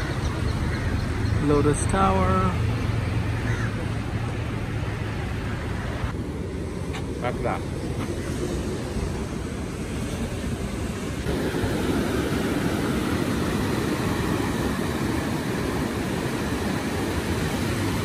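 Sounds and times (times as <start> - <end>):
waves washing over sand and rocks: 1.4 - 18.0.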